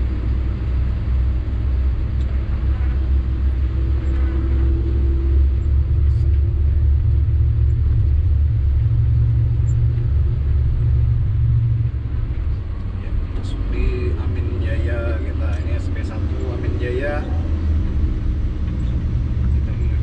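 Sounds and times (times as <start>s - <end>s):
diesel truck engine droning: 0.0s - 20.0s
road rumble: 0.0s - 20.0s.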